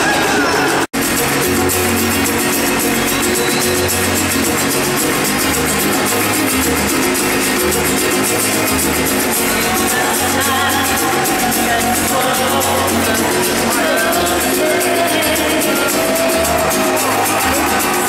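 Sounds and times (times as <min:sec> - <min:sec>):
bass line: 0:00.0 - 0:18.0
live pop band music: 0:00.0 - 0:18.0.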